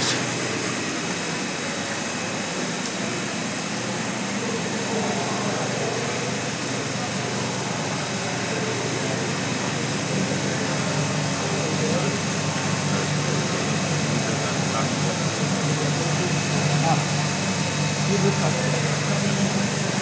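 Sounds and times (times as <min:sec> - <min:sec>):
pump motor running: 0:00.0 - 0:20.0
water discharging into tank: 0:00.0 - 0:20.0.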